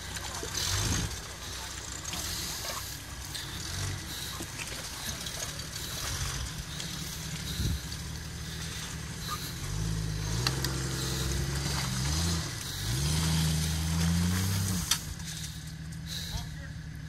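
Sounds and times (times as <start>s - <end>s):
engine revving under load: 0.0s - 17.0s.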